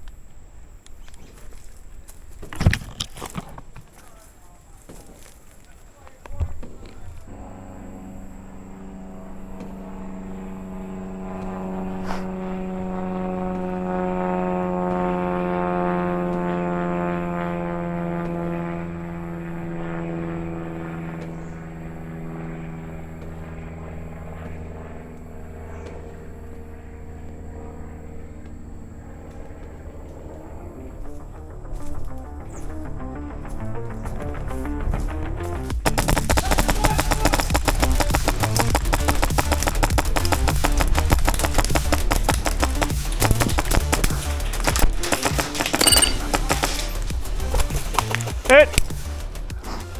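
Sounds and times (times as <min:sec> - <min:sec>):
propeller aircraft engine drone: 0:00.0 - 0:49.9.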